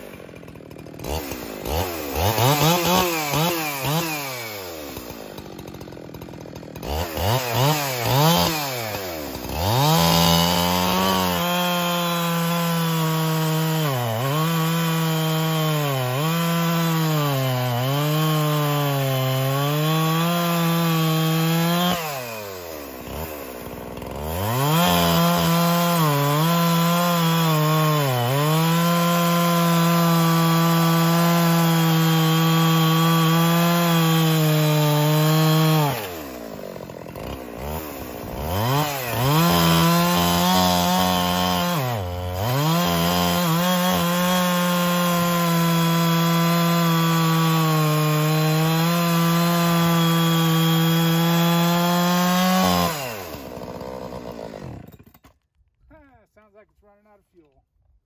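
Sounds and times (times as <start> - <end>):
chainsaw cutting log: 0.0 - 55.7.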